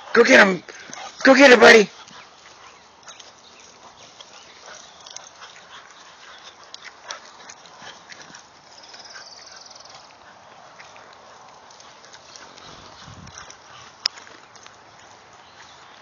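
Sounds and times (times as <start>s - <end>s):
dogs scuffling in play: 1.9s - 16.0s.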